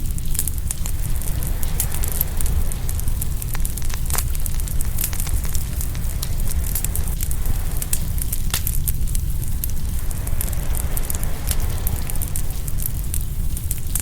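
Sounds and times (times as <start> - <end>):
low rumble: 0.0 - 14.0
wood fire crackling and popping: 0.0 - 14.0.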